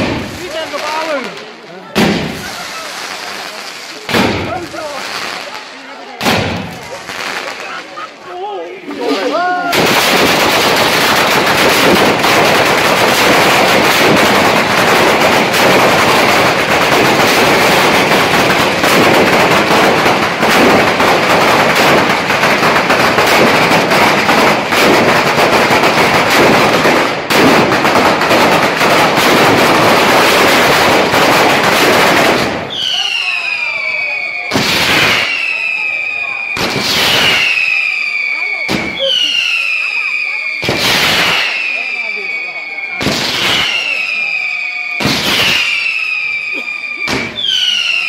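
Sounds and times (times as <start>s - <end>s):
firecrackers crackling: 0.0s - 48.0s
whistling fireworks shrieking: 8.9s - 48.0s.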